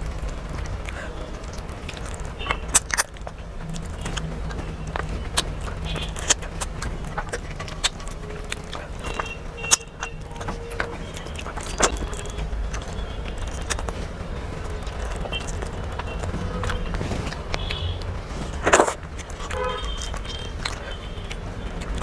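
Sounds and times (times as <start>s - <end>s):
chewing and mouth smacks: 0.0s - 22.0s.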